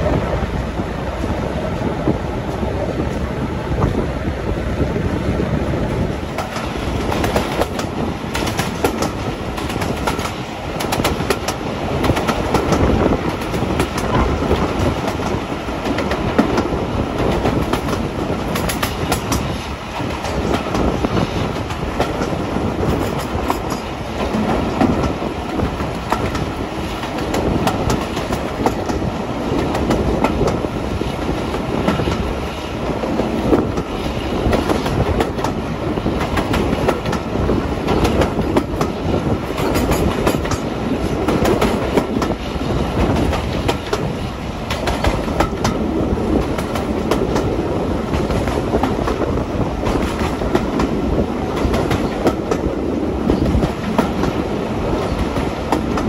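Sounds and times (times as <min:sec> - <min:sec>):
train rail running noise: 0:00.0 - 0:56.0
wheels clicking over track: 0:06.1 - 0:56.0.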